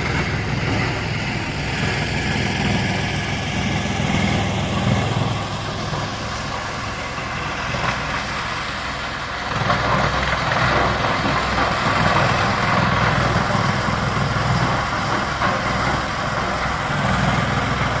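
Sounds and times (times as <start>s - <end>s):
wood chipper running: 0.0s - 18.0s.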